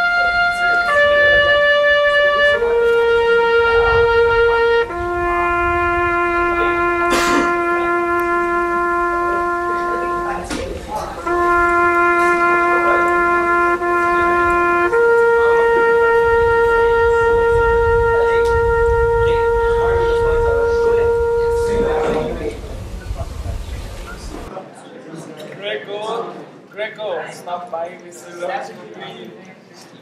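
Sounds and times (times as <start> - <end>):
horn holding long notes: 0.0 - 24.5.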